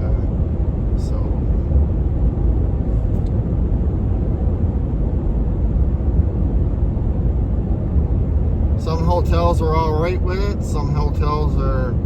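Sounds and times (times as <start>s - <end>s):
truck engine and tyre rumble: 0.0s - 12.0s.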